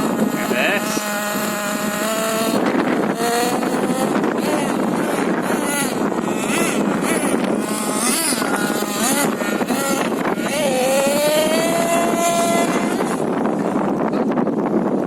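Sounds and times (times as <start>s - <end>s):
toy truck nitro engine revving: 0.0s - 14.0s.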